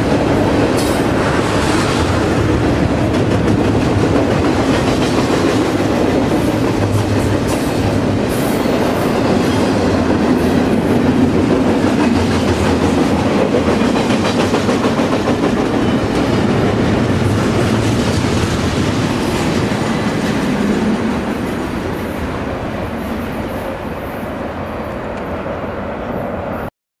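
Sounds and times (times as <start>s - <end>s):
freight train wheels rumbling on rails: 0.0s - 26.7s.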